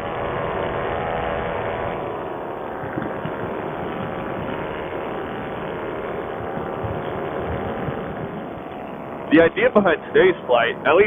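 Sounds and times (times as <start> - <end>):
two-stroke engine running: 0.0 - 11.0.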